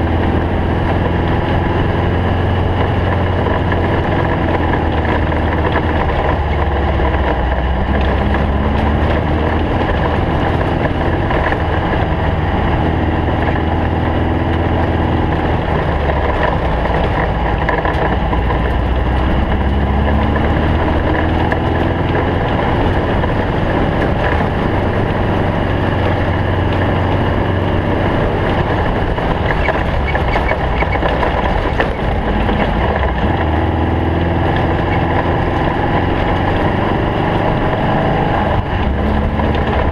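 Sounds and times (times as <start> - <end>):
car rattles and knocks: 0.0 - 39.9
race car engine revving: 0.0 - 39.9.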